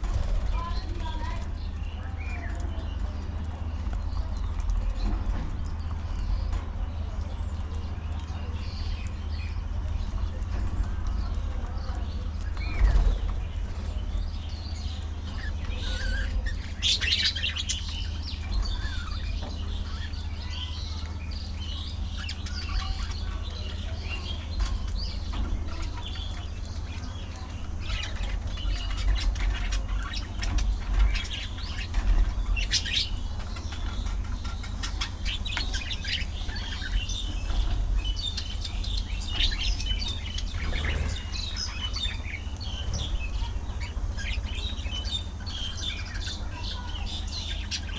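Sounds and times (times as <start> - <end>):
budgerigars chattering: 7.8 - 47.9.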